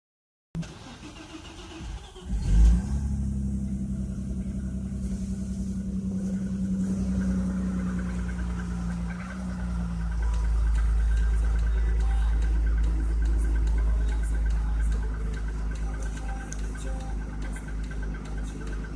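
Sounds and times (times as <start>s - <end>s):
car engine idling: 0.6s - 18.9s.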